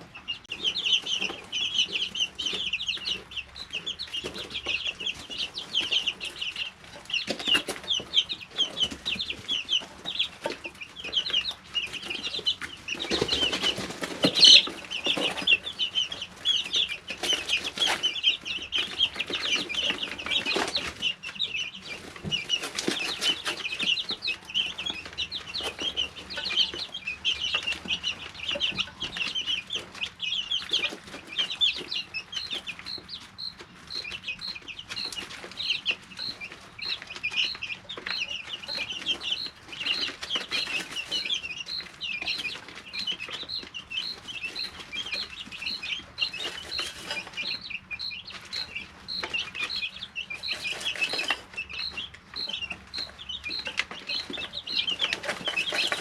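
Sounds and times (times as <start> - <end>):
chicks peeping and chirping: 0.0 - 56.0
single chick peeping repeatedly: 0.0 - 56.0.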